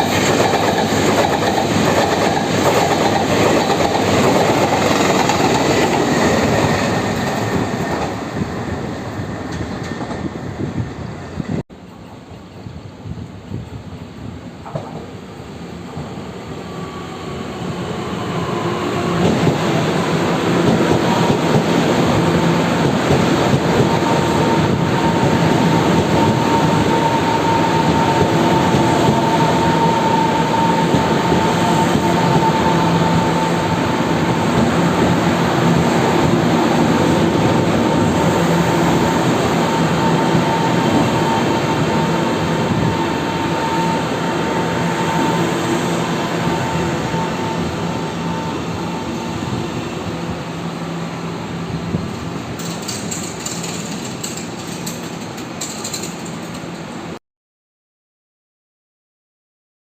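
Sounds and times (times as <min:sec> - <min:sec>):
electric train slowing to a stop: 0:00.0 - 0:57.2
train whine: 0:00.0 - 0:57.2.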